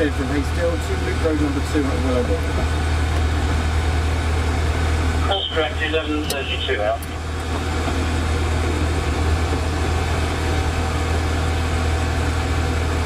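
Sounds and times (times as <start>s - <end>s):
diesel locomotive engine running: 0.0s - 13.0s.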